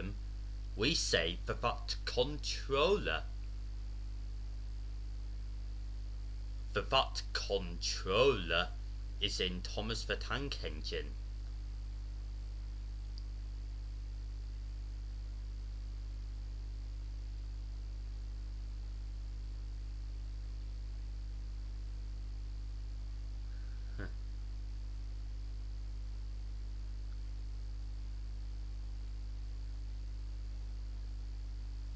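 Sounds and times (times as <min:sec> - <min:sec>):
electrical mains hum: 0:00.0 - 0:31.9
faint high whine and hiss: 0:00.0 - 0:31.9.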